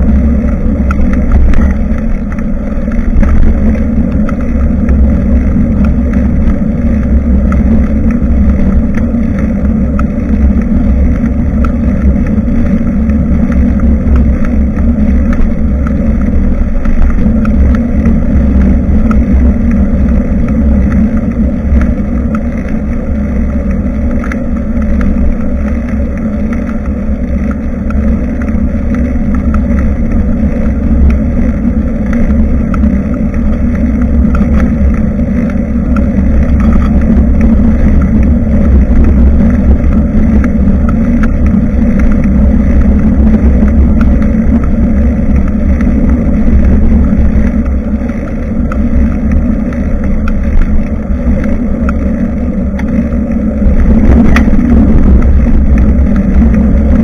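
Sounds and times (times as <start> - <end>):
faint ticks: 0.0 - 57.0
wind buffeting microphone: 0.0 - 57.0.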